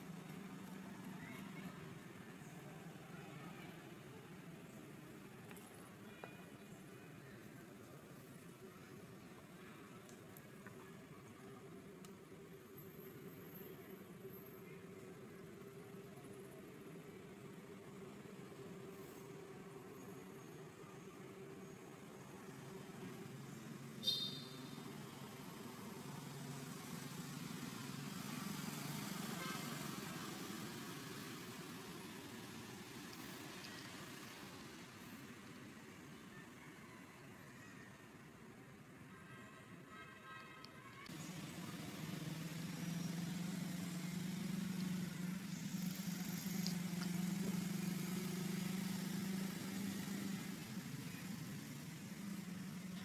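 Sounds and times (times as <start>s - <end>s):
vehicle engines humming: 0.0s - 37.1s, 40.9s - 53.0s.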